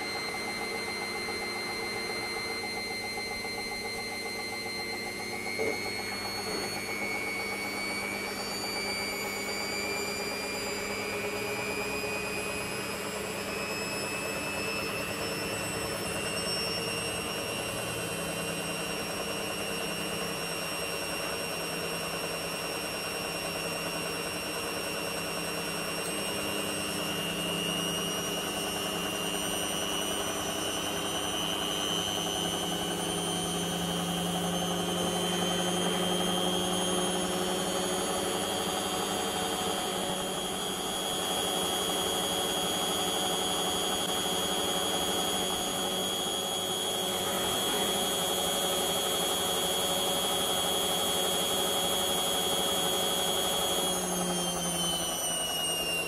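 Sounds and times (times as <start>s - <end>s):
washing machine motor whine: 0.0s - 56.0s.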